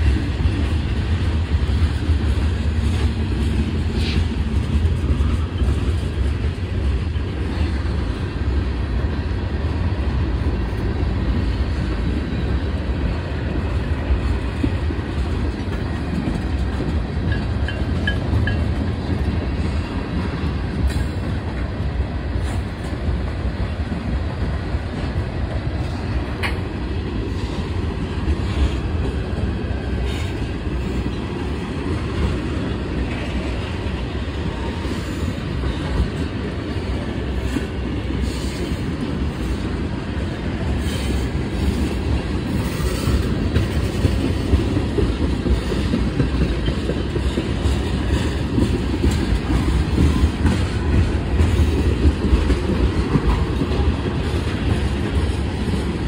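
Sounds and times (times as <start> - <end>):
freight train rumbling past: 0.0 - 56.0
wheels clacking over rail joints: 10.8 - 56.0.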